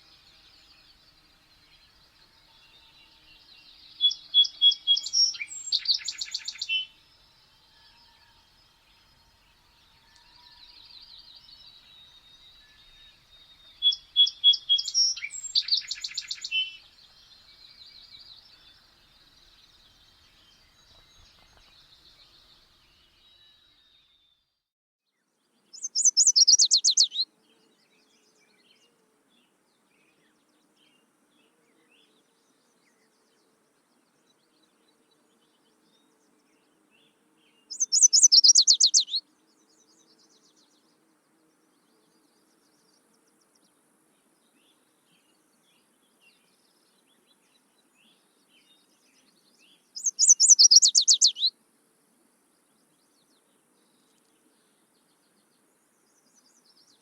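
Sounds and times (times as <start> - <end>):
songbird trill: 0.0 - 24.4, 25.6 - 51.6, 52.2 - 57.0.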